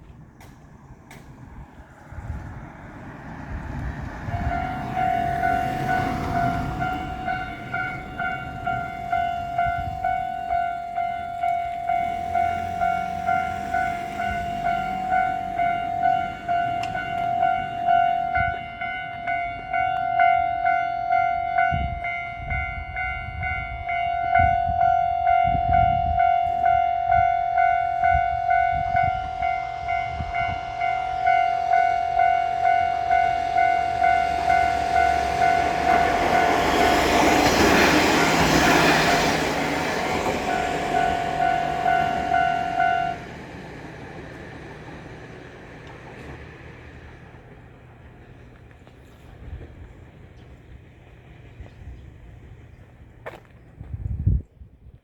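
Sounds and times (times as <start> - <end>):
train rumbling past: 0.0 - 54.5
level-crossing alarm clanging: 3.3 - 47.3.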